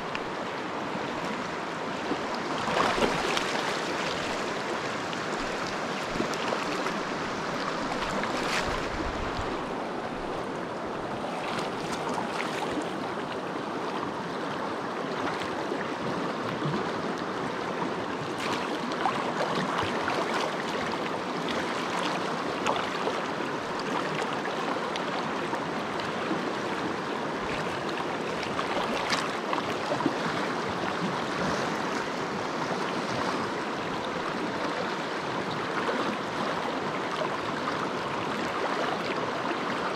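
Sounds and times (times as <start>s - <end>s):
rocky stream flowing: 0.0s - 39.9s.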